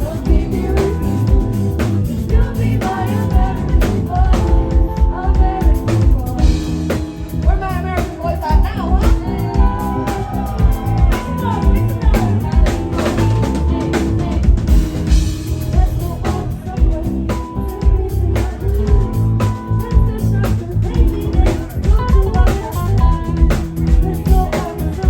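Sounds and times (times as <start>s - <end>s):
live band music: 0.0s - 25.0s.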